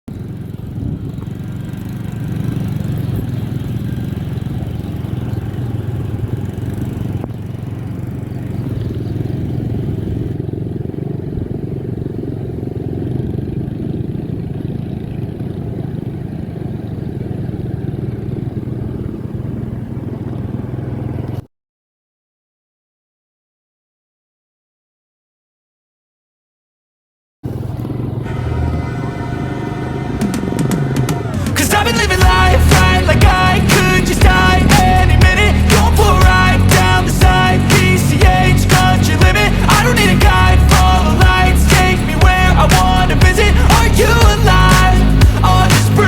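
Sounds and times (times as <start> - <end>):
vehicle engine drone: 0.0 - 21.5, 27.4 - 46.0
road noise: 0.1 - 21.5, 27.4 - 46.0.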